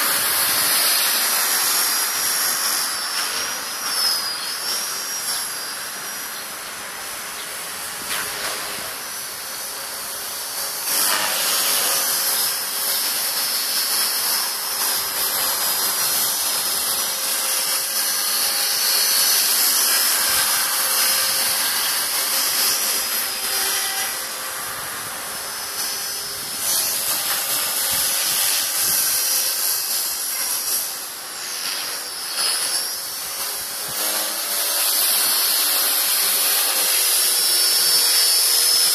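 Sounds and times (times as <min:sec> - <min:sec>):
rc helicopter motor whine: 0:00.0 - 0:38.9.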